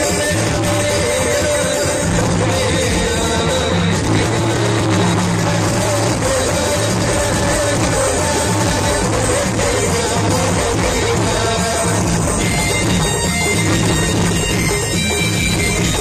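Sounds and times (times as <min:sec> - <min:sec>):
devotional song over loudspeakers: 0:00.0 - 0:16.0.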